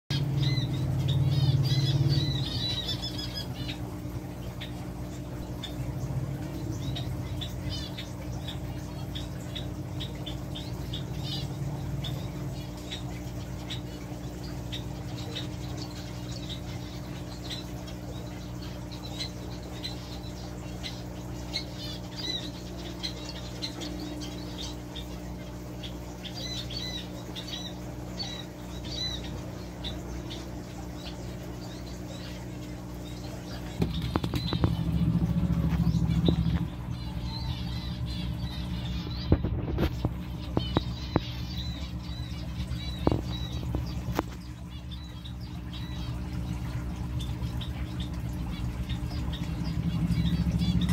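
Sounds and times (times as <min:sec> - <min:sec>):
low electrical hum: 0:00.1 - 0:50.9
small birds chirping: 0:00.1 - 0:50.9.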